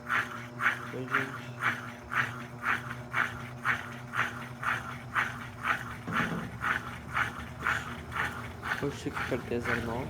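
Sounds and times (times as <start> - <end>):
washing machine motor humming: 0.0 - 10.0.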